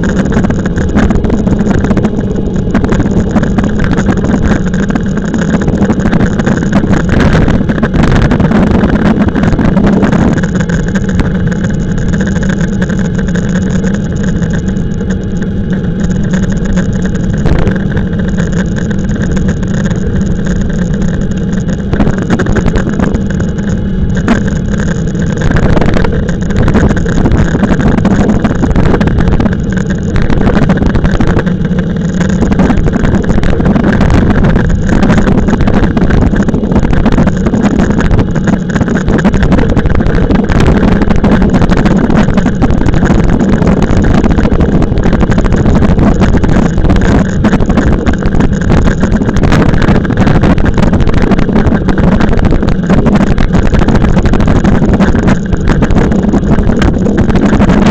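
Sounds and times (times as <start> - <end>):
bike rumbling on road: 0.0 - 57.9
wind rushing over microphone: 0.0 - 57.9.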